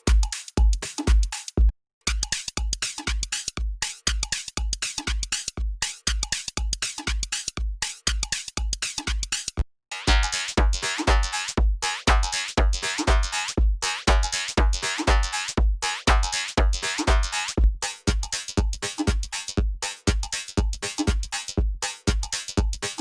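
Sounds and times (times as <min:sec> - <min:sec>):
electronic drum machine beat: 0:00.0 - 0:09.3, 0:09.9 - 0:23.0.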